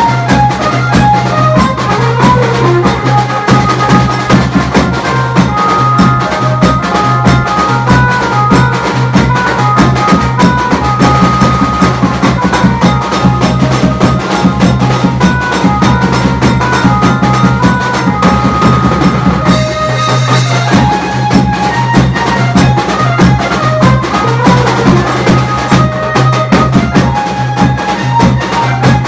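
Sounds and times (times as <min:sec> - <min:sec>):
repeating melodic line: 0:00.0 - 0:28.8
fast dense drumming: 0:00.0 - 0:29.0.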